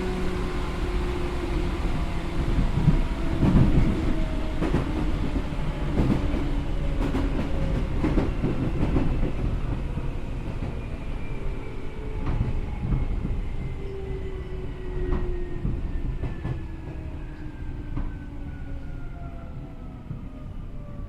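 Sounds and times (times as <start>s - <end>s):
steady train rumble: 0.0s - 21.0s.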